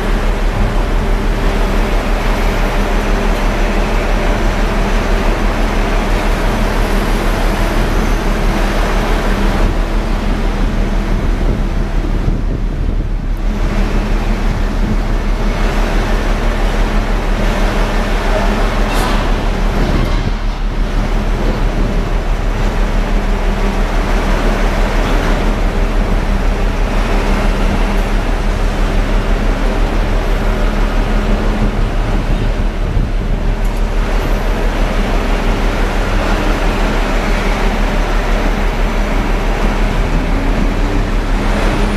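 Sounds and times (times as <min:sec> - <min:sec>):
constant low hum: 0:00.0 - 0:41.9.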